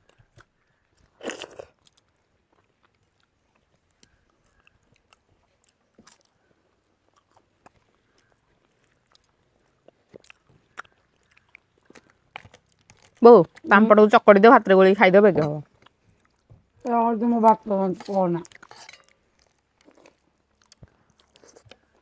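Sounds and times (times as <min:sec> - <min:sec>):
people eating with hands: 0:00.0 - 0:22.0.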